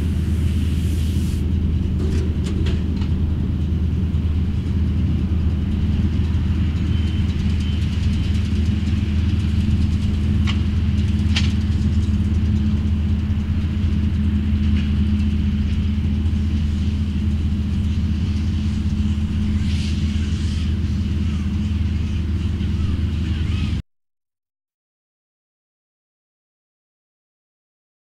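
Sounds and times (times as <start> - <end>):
tractor engine drone: 0.0 - 23.8.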